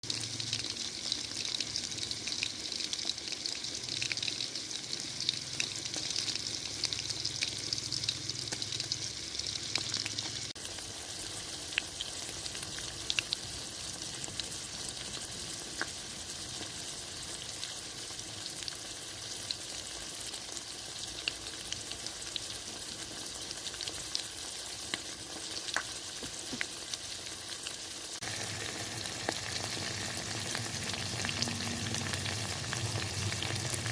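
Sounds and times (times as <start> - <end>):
fish sizzling in hot oil: 0.0 - 33.9
oil popping and crackling: 0.0 - 33.9.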